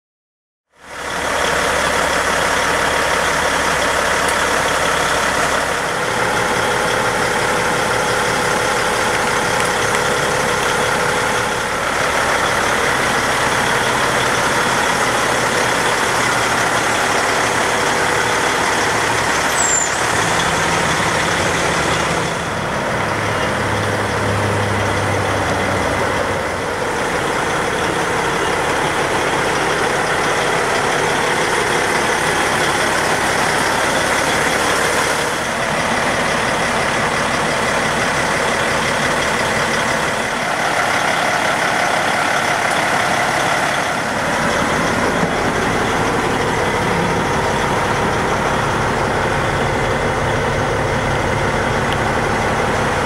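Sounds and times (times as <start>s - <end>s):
truck diesel engine idling: 0.7s - 53.0s.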